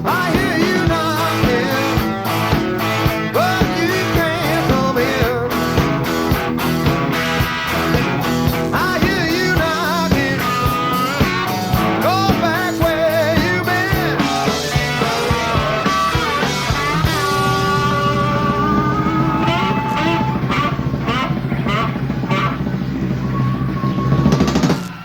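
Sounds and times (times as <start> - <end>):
electric lead guitar bending notes: 0.0 - 25.0
live rock band playing: 0.0 - 25.0.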